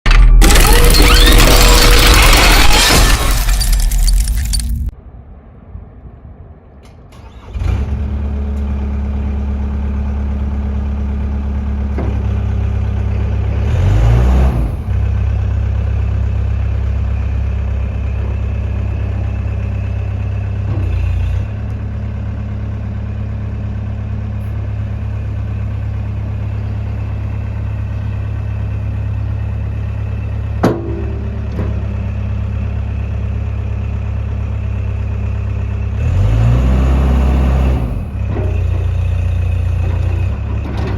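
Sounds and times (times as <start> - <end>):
loader engine starting and running: 0.1 - 4.9, 6.7 - 40.9.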